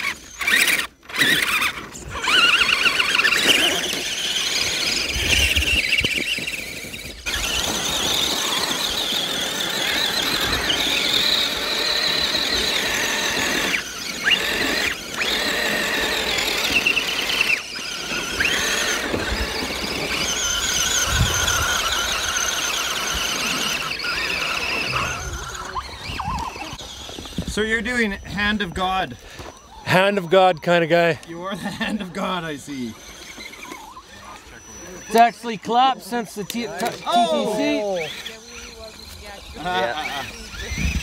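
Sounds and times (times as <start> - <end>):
rc truck motor whine: 0.0 - 41.0.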